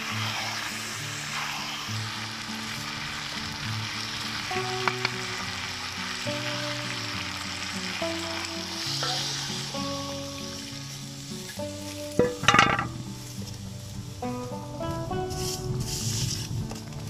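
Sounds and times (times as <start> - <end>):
food sizzling in a pan: 0.0 - 17.0
background music with held notes: 2.0 - 17.0.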